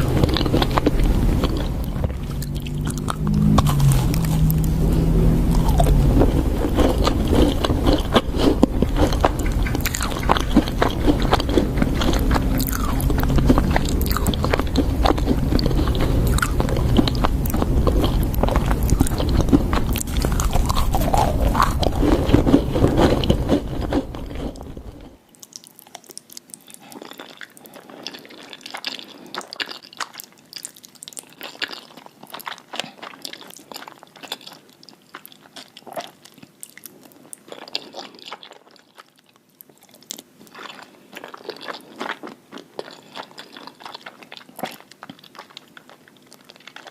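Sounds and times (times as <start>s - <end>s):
chewing crunchy food: 0.0s - 46.9s.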